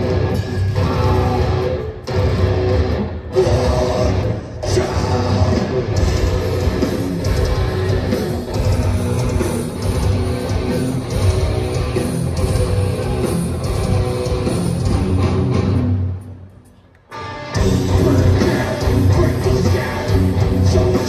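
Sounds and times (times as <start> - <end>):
metal band playing live: 0.0 - 21.0.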